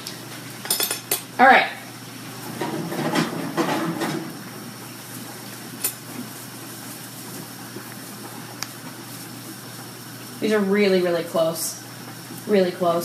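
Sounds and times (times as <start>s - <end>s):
pot boiling with hiss: 0.0s - 13.0s.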